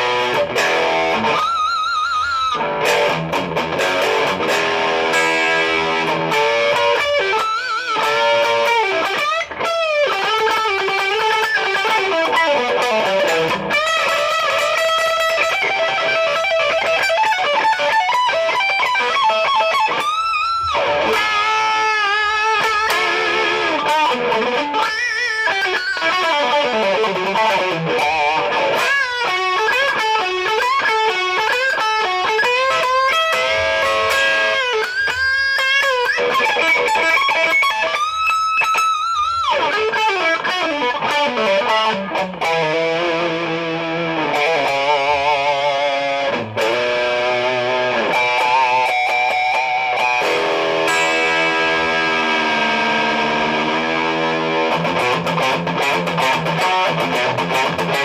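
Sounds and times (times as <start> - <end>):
electric guitar solo: 0.0 - 58.0.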